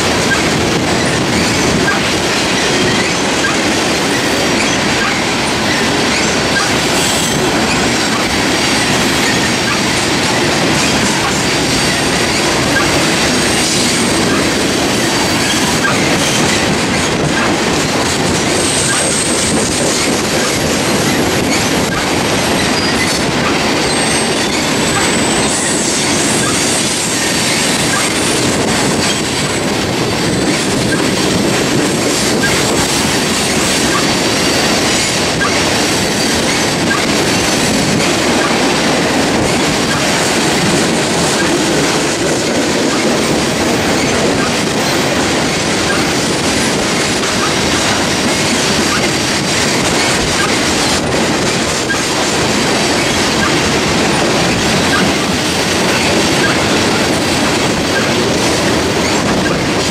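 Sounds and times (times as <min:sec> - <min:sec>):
train wheels rumbling and clattering: 0:00.0 - 0:59.9
high wheel squeals: 0:00.2 - 0:17.6, 0:18.4 - 0:29.3, 0:30.2 - 0:38.8, 0:39.4 - 0:59.9.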